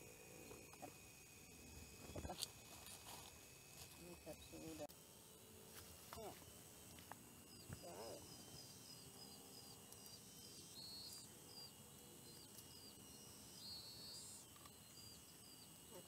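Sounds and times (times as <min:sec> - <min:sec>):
thin insect drone: 0:00.0 - 0:16.0.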